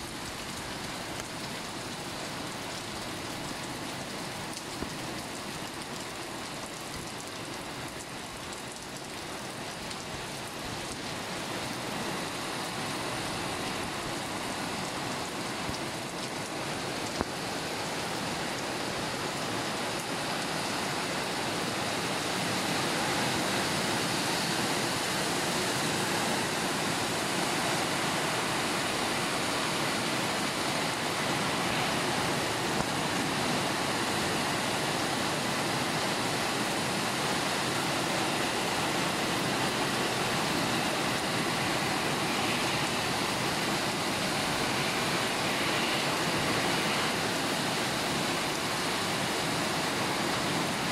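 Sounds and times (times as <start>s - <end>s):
heavy rain and wind: 0.0s - 50.9s.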